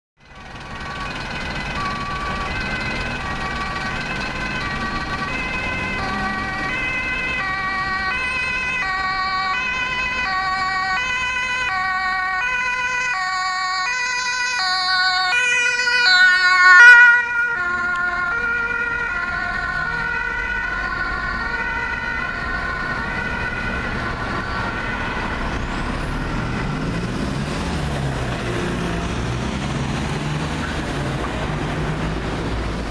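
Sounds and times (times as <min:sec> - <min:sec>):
traffic noise: 0:00.2 - 0:32.9
two-tone emergency siren: 0:00.2 - 0:32.9.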